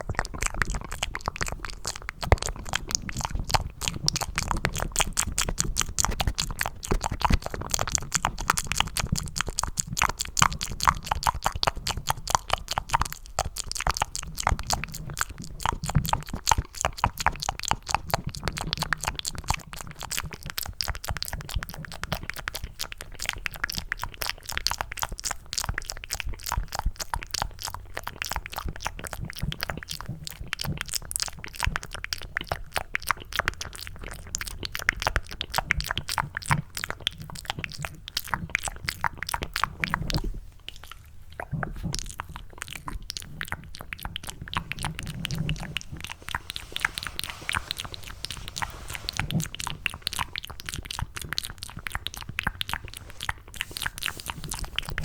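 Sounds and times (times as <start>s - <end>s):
wet mouth clicks and smacks: 0.0s - 55.0s.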